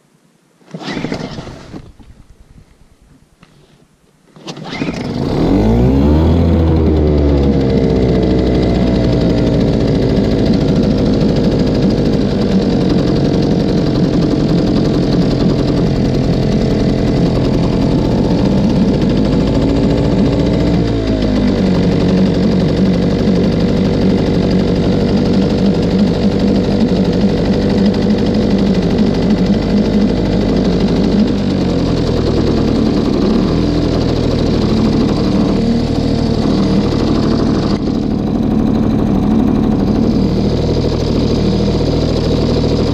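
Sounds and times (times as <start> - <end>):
two-stroke outboard motor running: 0.7 - 1.6, 4.5 - 42.9.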